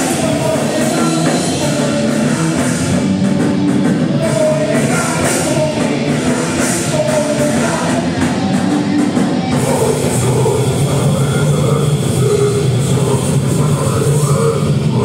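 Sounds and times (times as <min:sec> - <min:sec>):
electric guitars: 0:00.0 - 0:15.0
live punk band playing: 0:00.0 - 0:15.0
person singing through speakers: 0:00.0 - 0:15.0.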